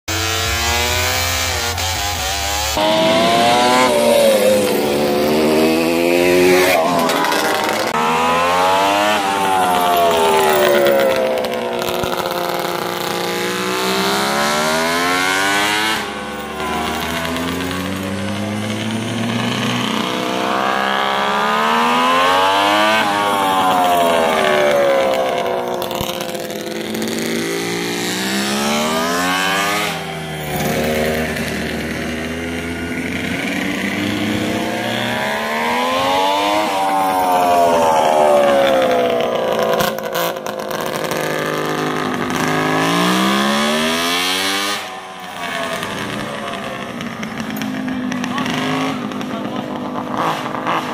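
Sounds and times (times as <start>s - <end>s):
minibike engine revving: 0.0s - 50.9s.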